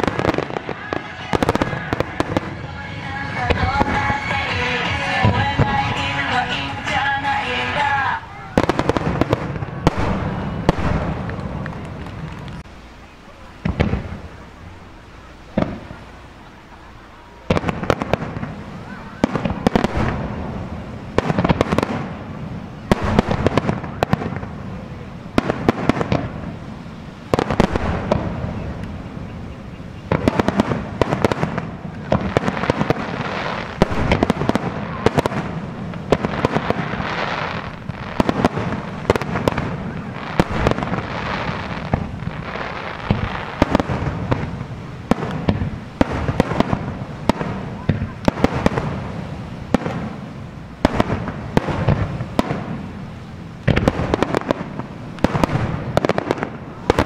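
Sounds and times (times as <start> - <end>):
fireworks bursting with bangs: 0.0 - 57.0
fireworks crackling: 0.0 - 57.0.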